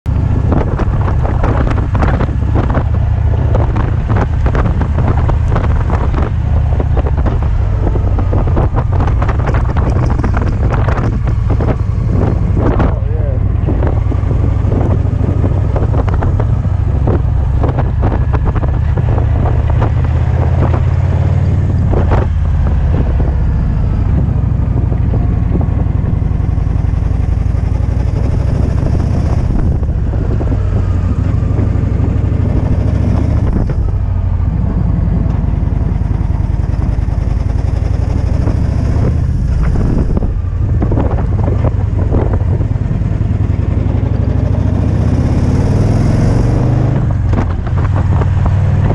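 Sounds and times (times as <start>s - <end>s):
motorcycle engine running: 0.1s - 48.9s
wind buffeting on microphone: 0.1s - 48.9s.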